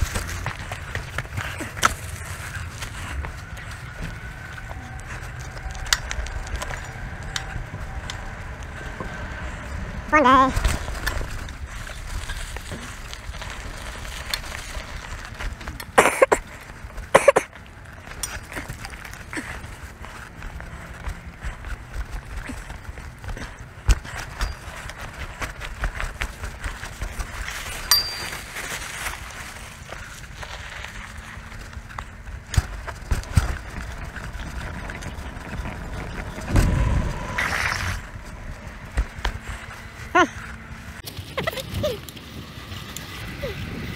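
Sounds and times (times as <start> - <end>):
bike rolling over gravel: 0.0 - 43.9.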